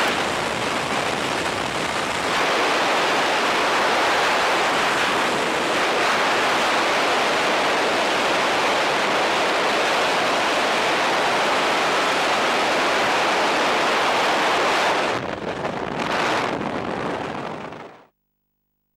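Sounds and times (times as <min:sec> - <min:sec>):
freefall wind buffeting microphone: 0:00.0 - 0:18.0.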